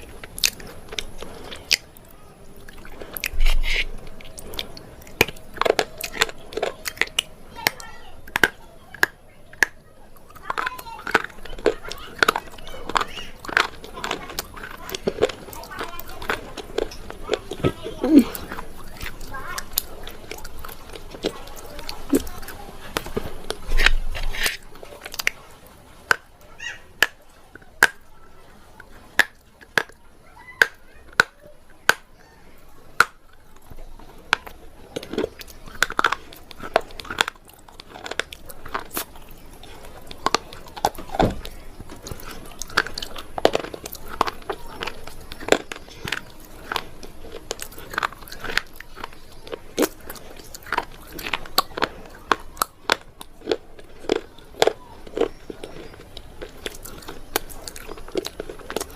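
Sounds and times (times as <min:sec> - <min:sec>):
crunchy chewing: 0:00.0 - 0:58.9.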